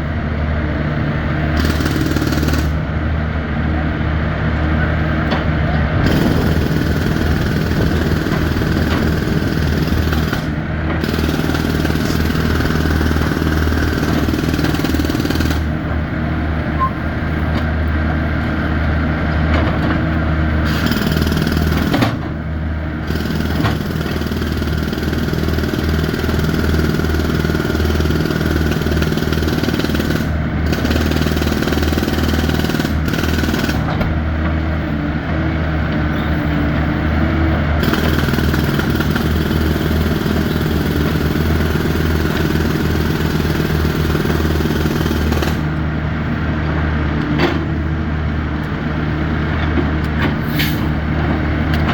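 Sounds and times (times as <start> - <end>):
heavy engine running with clatter: 0.0 - 51.9.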